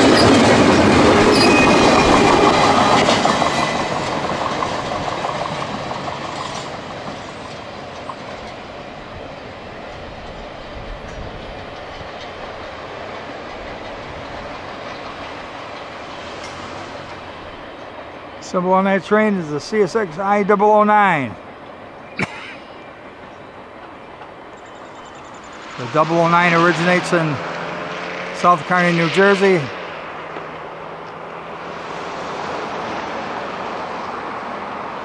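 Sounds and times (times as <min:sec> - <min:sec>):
freight train rumble: 0:00.0 - 0:35.0.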